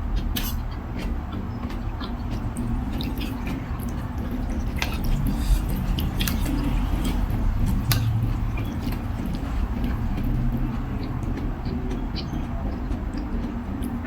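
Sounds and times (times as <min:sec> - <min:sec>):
person chewing: 0:00.0 - 0:14.0
steady low rumble: 0:00.0 - 0:14.0
wet mouth clicks and smacks: 0:00.2 - 0:14.0.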